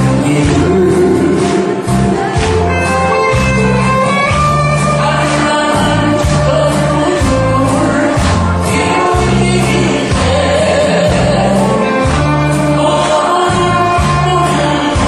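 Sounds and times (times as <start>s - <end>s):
backing track bass line: 0.0s - 15.0s
person singing: 0.0s - 15.0s.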